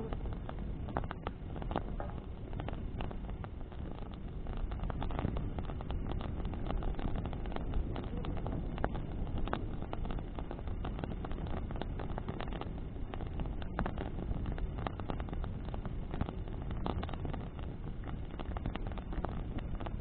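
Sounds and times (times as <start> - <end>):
burning branches crackling: 0.0 - 20.0
rushing of flames and wind: 0.0 - 20.0.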